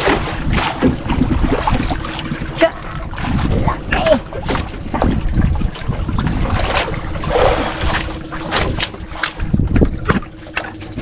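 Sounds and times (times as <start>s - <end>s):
water sounds: 0.0s - 11.0s
wind buffeting microphone: 0.0s - 11.0s.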